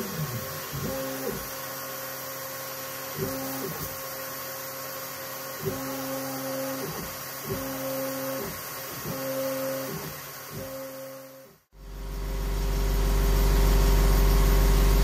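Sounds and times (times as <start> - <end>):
motor whine with pitch sweeps: 0.0 - 15.0.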